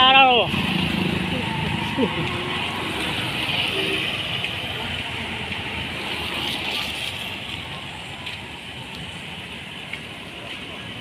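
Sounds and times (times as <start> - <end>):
auto-rickshaws driving off: 0.0 - 11.0
traffic hiss on wet road: 0.2 - 11.0.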